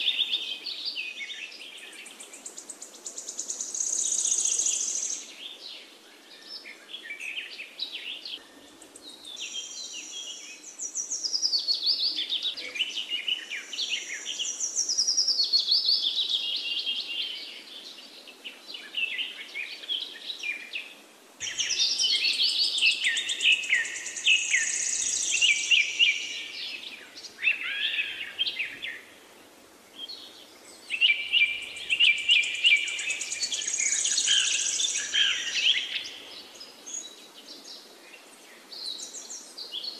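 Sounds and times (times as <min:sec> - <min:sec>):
birds singing and chirping: 0:00.0 - 0:29.2, 0:30.0 - 0:39.9.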